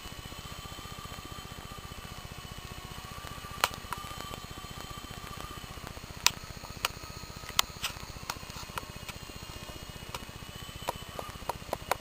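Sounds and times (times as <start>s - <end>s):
faint motor whine: 0.0s - 12.0s
helicopter rotor flutter: 0.0s - 12.0s
sharp clicks: 2.0s - 12.0s.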